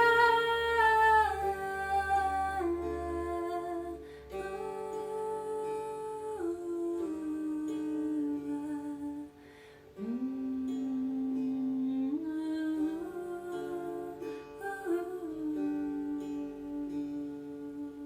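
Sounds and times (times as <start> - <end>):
person humming sustained notes: 0.0 - 18.0
soft plucked-string music: 0.0 - 18.0.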